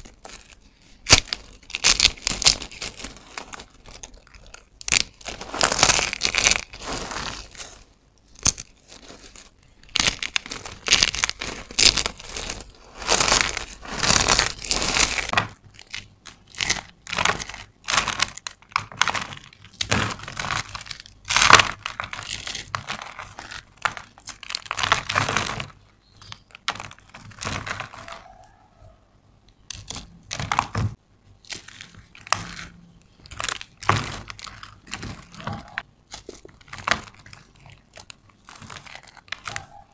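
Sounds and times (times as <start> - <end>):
dry soap crunching in hands: 0.0 - 28.3, 29.6 - 39.9.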